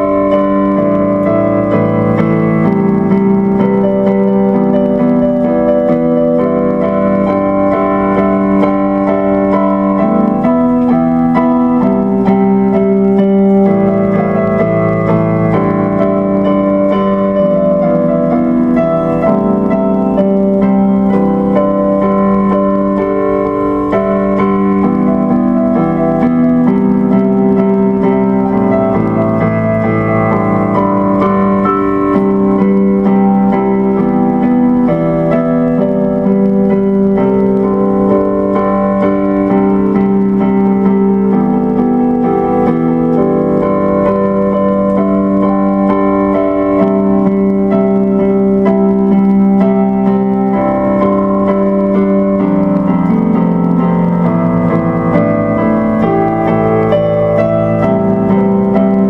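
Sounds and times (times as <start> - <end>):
electric piano chords: 0.0 - 59.0.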